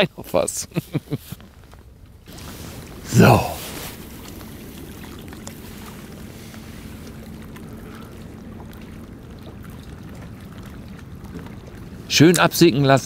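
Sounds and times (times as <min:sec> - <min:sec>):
faint steady hum: 0:00.0 - 0:13.0
water at a bank: 0:00.0 - 0:13.0.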